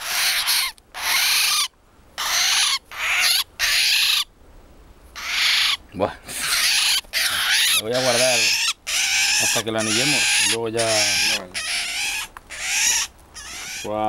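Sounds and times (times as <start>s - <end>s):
bird harsh rasping screeches: 0.0s - 4.3s, 5.2s - 14.0s.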